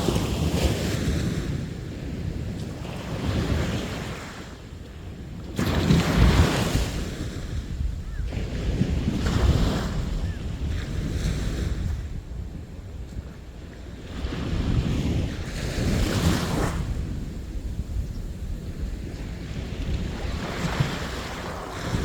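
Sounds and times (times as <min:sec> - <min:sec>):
sea waves breaking on shore: 0:00.0 - 0:22.0
wind rumble on microphone: 0:00.0 - 0:22.0.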